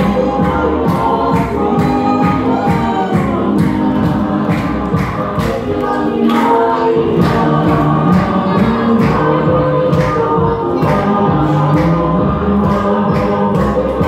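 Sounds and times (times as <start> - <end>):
group singing: 0.0 - 14.0
sharp rhythmic strikes: 0.0 - 14.0.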